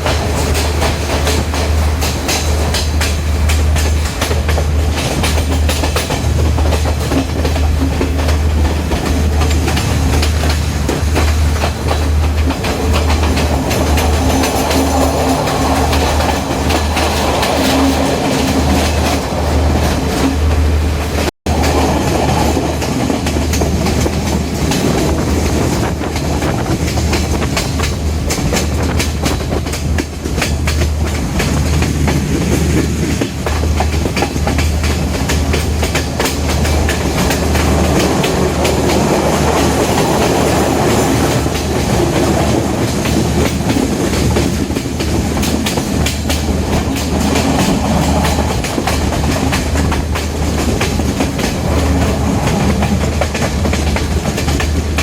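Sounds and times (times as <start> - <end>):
train running gear rumble: 0.0 - 55.0
train wheels clicking on track: 0.0 - 55.0.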